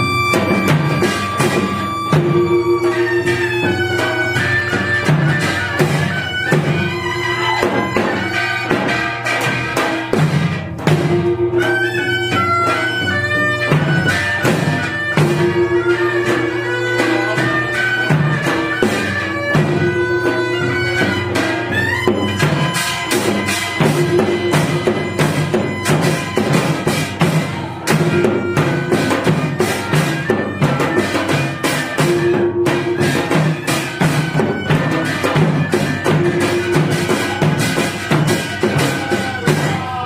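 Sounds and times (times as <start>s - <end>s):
reedy wind instrument melody: 0.0s - 10.2s, 10.8s - 40.0s
drum strokes: 0.0s - 40.0s.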